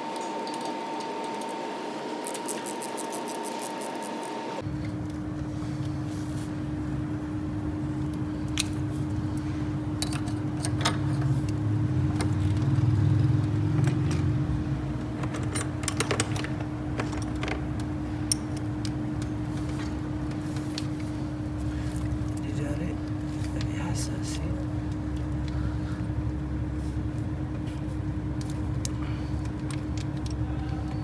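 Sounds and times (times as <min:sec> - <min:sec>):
machine droning: 0:00.0 - 0:31.0.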